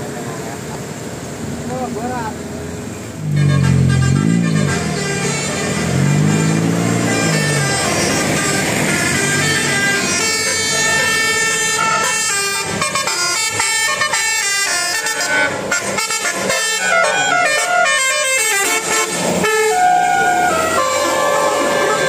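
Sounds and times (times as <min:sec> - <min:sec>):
vehicle noise: 0:00.0 - 0:22.0
multi-tone bus air horn melody: 0:03.2 - 0:22.0.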